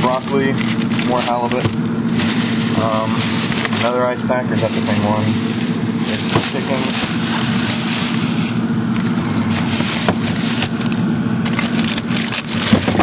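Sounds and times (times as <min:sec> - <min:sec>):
freezer low hum: 0:00.0 - 0:13.0
frozen food packages rustling: 0:00.0 - 0:13.0.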